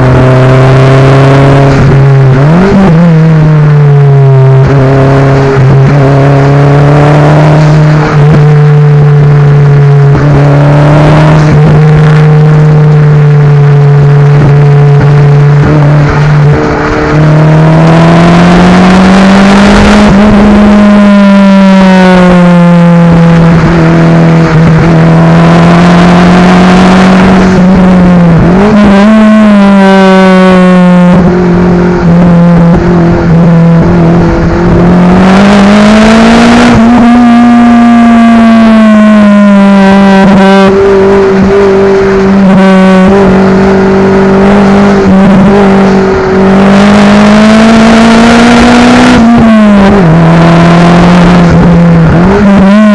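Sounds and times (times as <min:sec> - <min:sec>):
car engine and exhaust under load: 0:00.0 - 0:52.9.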